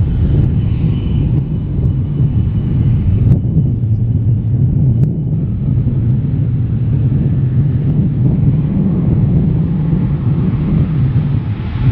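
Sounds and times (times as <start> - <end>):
jet engines rumbling: 0.0 - 11.9.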